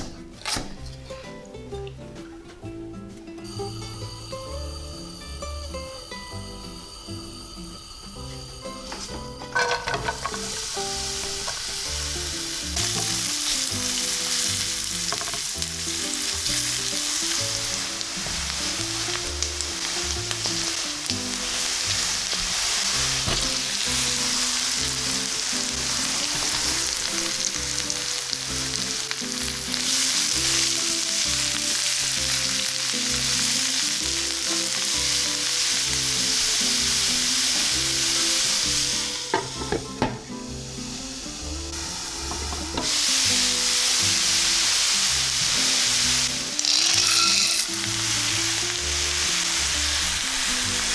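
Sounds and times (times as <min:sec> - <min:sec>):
quiet background music: 0:00.0 - 0:50.9
vegetables sizzling in a pan: 0:03.4 - 0:50.9.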